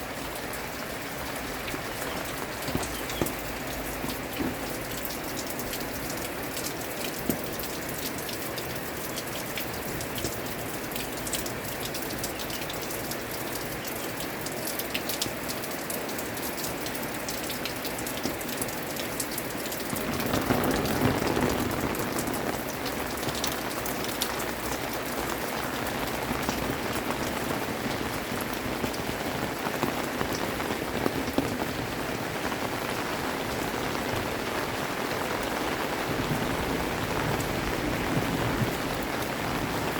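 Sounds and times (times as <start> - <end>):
rain drops ticking on hard surfaces: 0.0 - 39.9.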